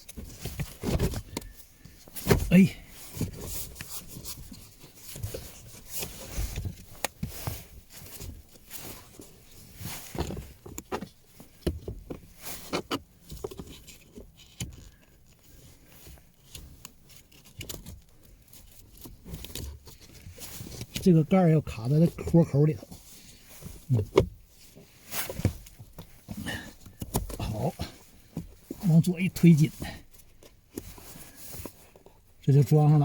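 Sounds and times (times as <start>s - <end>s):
air filter clicks and rustles: 0.0s - 21.1s, 22.0s - 33.0s.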